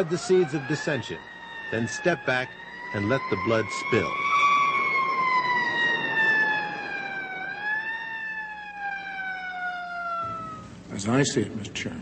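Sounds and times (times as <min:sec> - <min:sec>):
siren wailing: 0:00.0 - 0:10.9.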